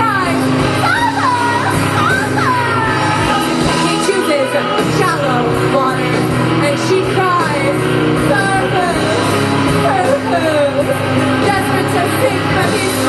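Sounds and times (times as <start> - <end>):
live rock band playing: 0.0 - 13.0
woman singing: 0.0 - 13.0.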